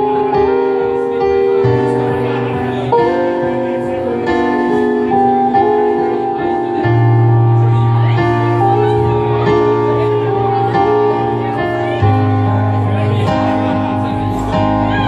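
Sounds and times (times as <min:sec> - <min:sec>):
bass guitar note: 0:00.0 - 0:15.0
keyboard chords: 0:00.0 - 0:15.0.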